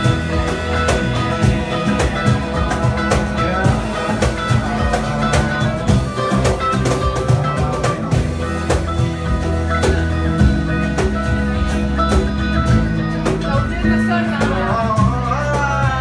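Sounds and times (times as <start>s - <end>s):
drum kit beat: 0.0s - 16.0s
electric bass: 0.0s - 16.0s
electric guitar: 0.0s - 16.0s
strummed acoustic guitar: 0.0s - 16.0s.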